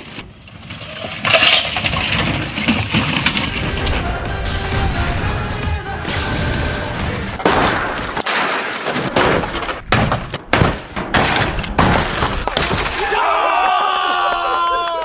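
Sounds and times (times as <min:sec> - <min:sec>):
cars crashing and crumpling: 0:00.0 - 0:13.4.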